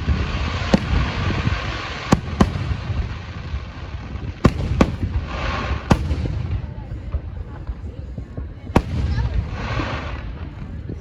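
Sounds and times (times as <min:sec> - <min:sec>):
fireworks bangs: 0:00.0 - 0:11.0
steady rumble and hiss: 0:00.0 - 0:11.0.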